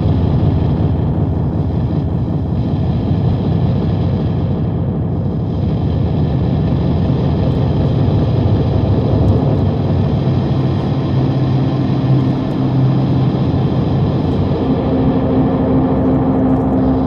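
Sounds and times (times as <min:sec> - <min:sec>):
low hum-like tone: 0:00.0 - 0:17.0
low rumbling drone noise: 0:00.0 - 0:17.0.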